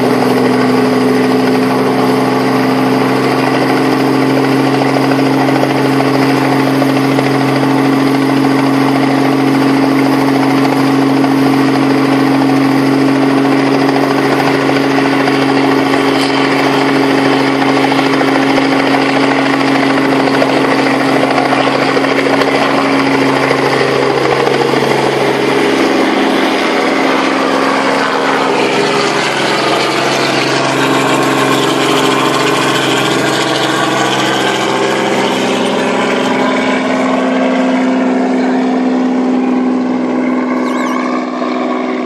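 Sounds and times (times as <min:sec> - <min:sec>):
helicopter engine and rotor noise: 0:00.0 - 0:42.0.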